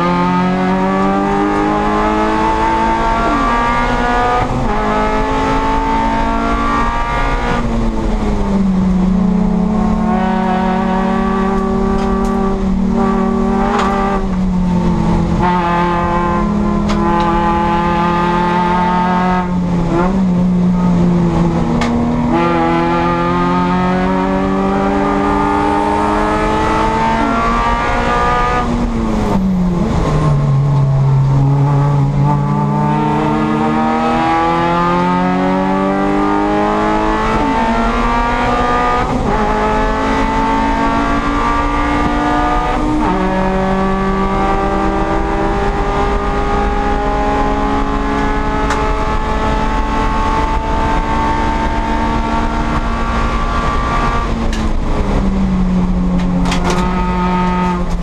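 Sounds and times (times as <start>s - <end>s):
race car engine under load: 0.0s - 58.0s.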